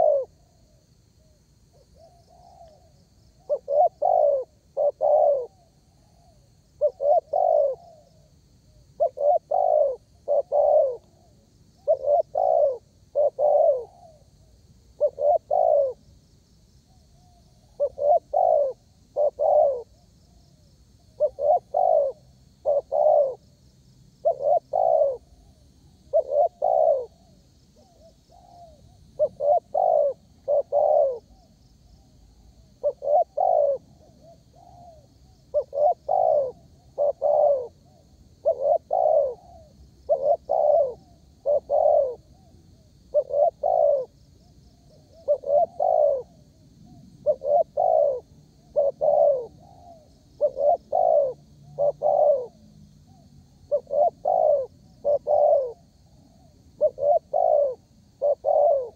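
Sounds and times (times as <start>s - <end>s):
dove cooing: 0.0s - 16.1s, 16.9s - 20.4s, 21.0s - 23.4s, 24.2s - 58.9s.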